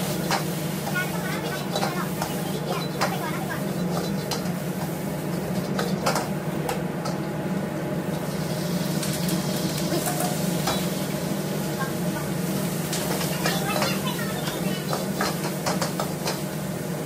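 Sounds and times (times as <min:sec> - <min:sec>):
low burner hum: 0:00.0 - 0:17.0
rice sizzling: 0:00.0 - 0:17.0.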